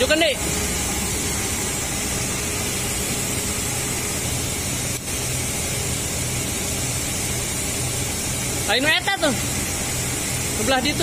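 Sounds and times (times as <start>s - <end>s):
forklift engine idling: 0.0s - 11.0s.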